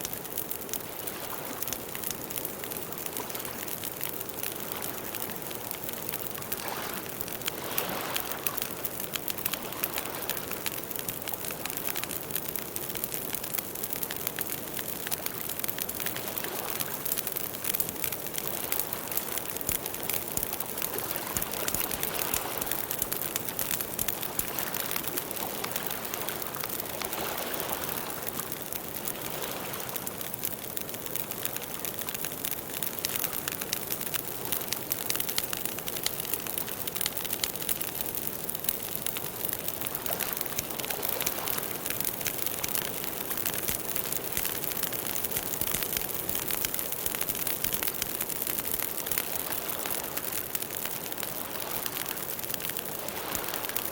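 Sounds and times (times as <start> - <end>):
soft rushing of flames: 0.0 - 27.1, 27.7 - 53.9
campfire crackling and popping: 0.0 - 53.9.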